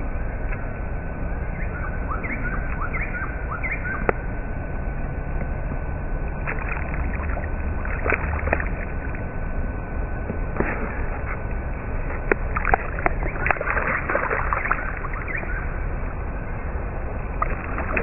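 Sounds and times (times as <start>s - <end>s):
electric trolling motor whine: 0.0s - 18.0s.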